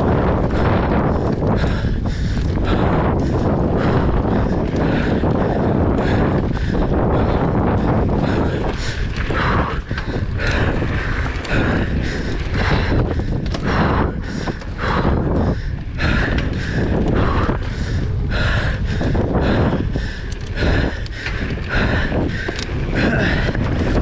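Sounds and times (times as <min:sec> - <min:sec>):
person breathing hard: 0:00.0 - 0:24.0
tyres rumbling on trail: 0:00.0 - 0:24.0
wind buffeting microphone: 0:00.0 - 0:24.0.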